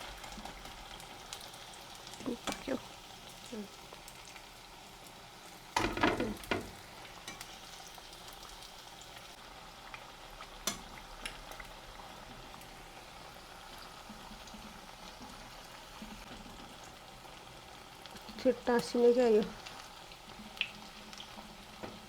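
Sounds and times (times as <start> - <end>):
food deep-frying in hot oil: 0.0 - 22.0.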